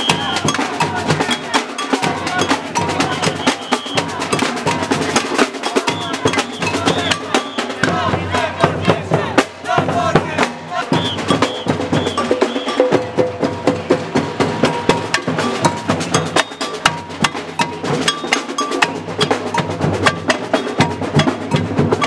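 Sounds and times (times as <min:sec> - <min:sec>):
marching drummers beating drums: 0:00.0 - 0:22.0.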